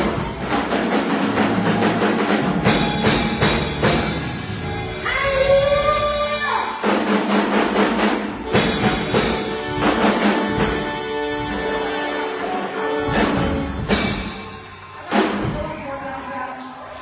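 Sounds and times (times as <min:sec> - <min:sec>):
drums and percussion: 0:00.0 - 0:17.0.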